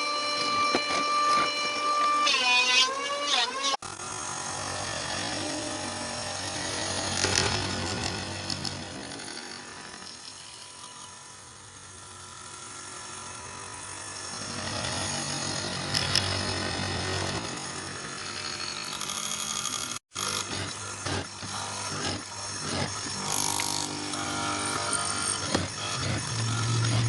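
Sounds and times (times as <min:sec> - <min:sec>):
woodworking power tool running: 0:00.0 - 0:27.0.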